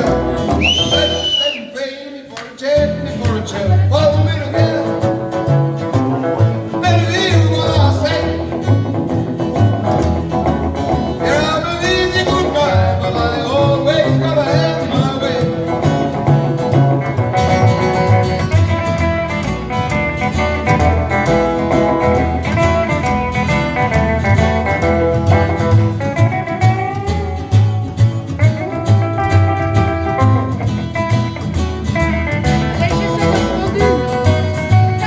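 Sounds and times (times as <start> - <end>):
live band playing country music: 0.0 - 1.8, 2.4 - 35.0.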